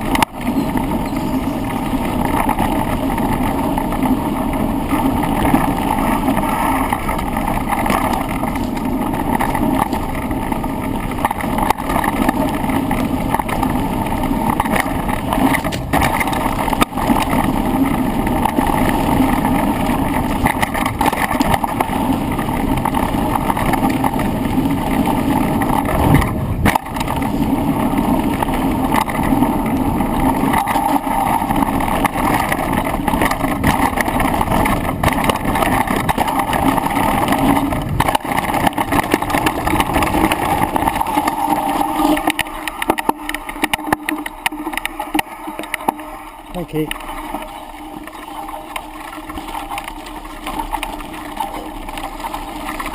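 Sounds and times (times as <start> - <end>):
bike rattling over rough trail: 0.0 - 52.9.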